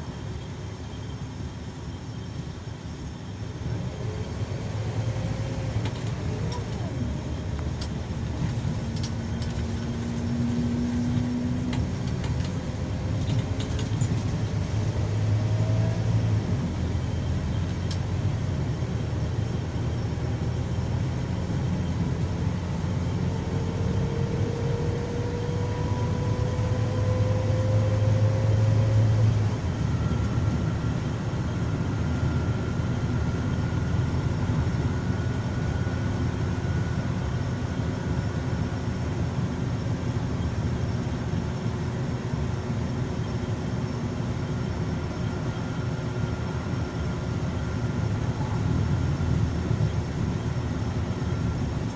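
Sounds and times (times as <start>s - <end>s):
coach engine and road noise: 0.0s - 51.9s.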